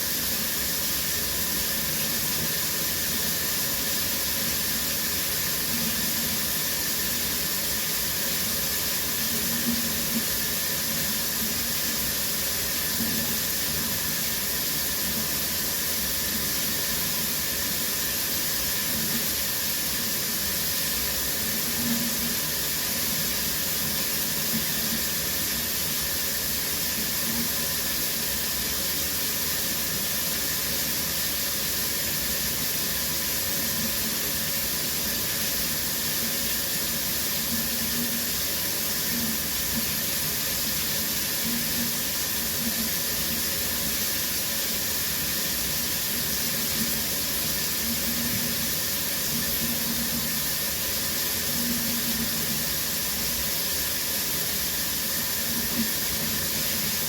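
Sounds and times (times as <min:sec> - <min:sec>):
shower water spray hissing: 0:00.0 - 0:57.0.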